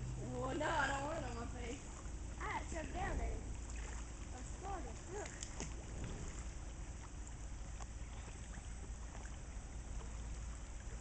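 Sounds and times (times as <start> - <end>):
pond water sloshing and lapping: 0.0 - 11.0
steady low rumble: 0.0 - 11.0.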